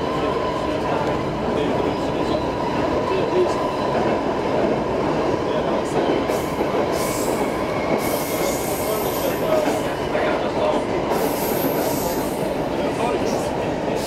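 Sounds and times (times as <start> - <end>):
subway car wheels rumbling: 0.0 - 14.0.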